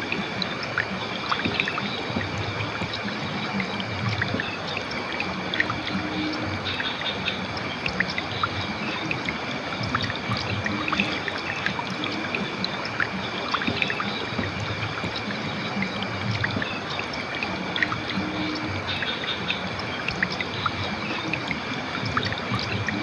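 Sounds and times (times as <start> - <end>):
river flowing over stones: 0.0 - 23.0.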